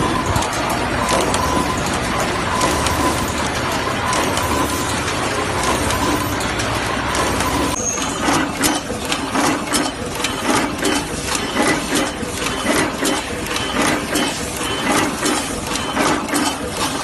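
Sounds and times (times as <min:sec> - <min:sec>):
crimping machine clattering: 0:00.0 - 0:17.0.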